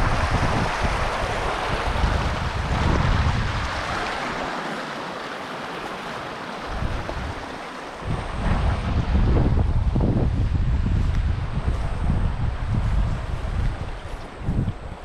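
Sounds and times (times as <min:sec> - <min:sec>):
wind buffeting microphone: 0:00.0 - 0:04.6, 0:05.9 - 0:15.0
rushing water: 0:00.0 - 0:15.0.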